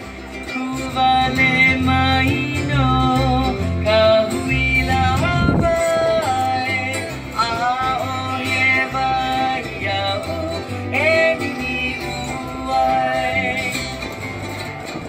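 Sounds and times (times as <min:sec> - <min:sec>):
bass line: 0:00.0 - 0:15.0
plucked strings: 0:00.0 - 0:15.0
person singing: 0:00.4 - 0:14.1.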